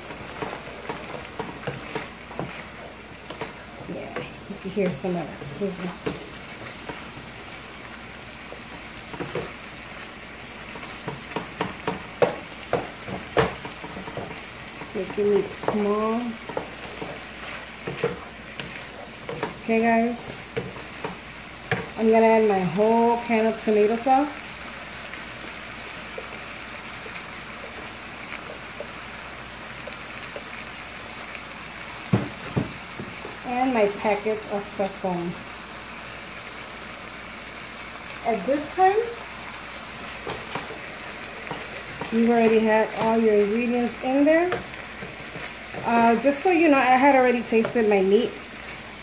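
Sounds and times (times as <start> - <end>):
wooden spoon scraping a pan: 0.0 - 31.3, 38.4 - 49.0
meat sizzling in a frying pan: 0.0 - 49.0.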